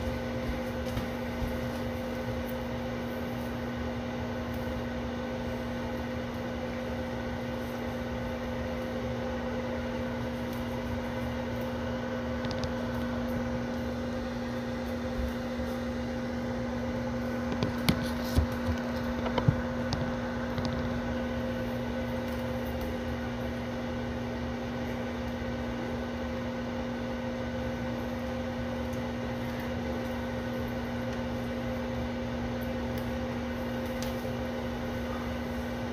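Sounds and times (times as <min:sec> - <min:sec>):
microwave oven humming: 0:00.0 - 0:35.9.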